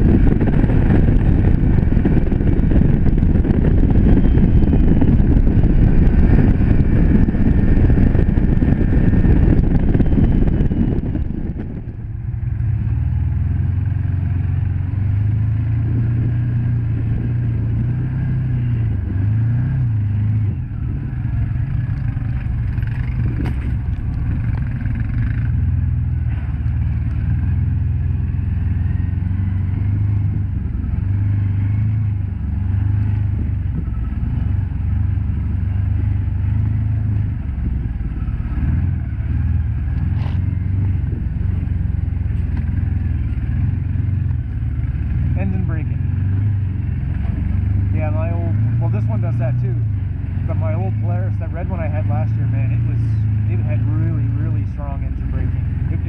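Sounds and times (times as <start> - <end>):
vehicle engine driving: 0.0 - 56.0
wind noise: 0.0 - 56.0.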